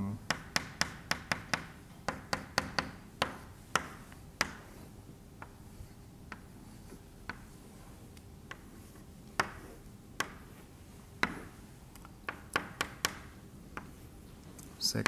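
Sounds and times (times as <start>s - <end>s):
chalk tapping on blackboard: 0.3s - 14.2s.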